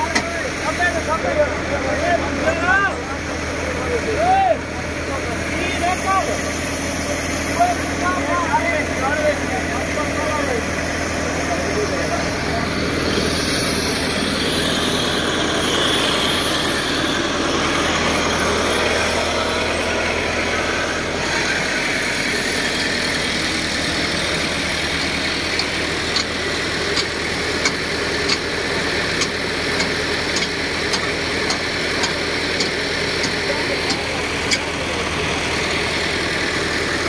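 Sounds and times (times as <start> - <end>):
diesel tractor engines running: 0.0 - 37.0.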